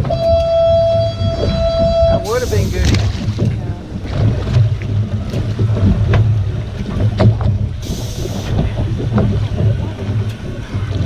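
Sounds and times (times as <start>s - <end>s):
boat engine humming: 0.0s - 11.0s
wind on microphone: 0.0s - 11.0s.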